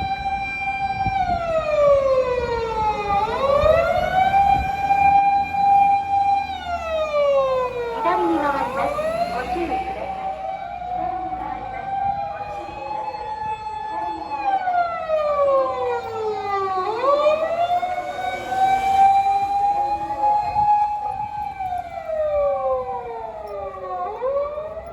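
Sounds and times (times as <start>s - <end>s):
fire engine siren wailing: 0.0s - 24.9s.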